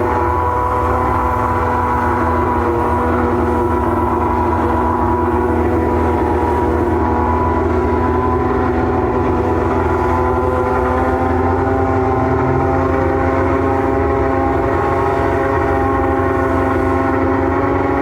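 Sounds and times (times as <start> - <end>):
high-pitched race car engine idling: 0.0 - 18.0.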